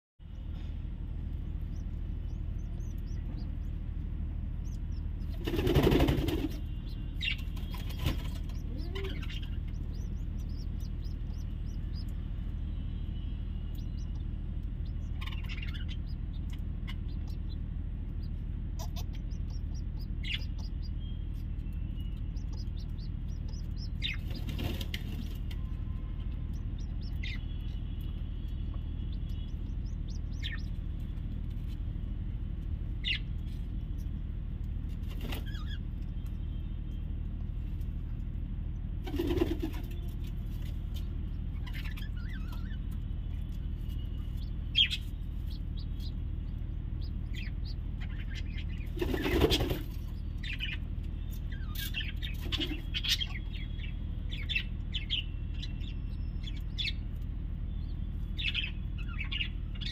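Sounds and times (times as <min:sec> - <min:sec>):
steady low hum: 0:00.2 - 0:59.9
high bird chirps: 0:01.4 - 0:30.9, 0:41.0 - 0:59.9.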